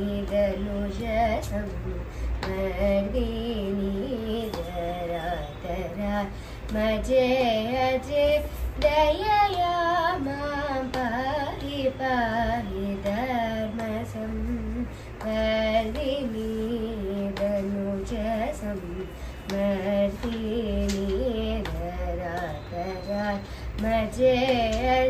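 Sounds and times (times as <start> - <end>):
girl singing: 0.0 - 25.0.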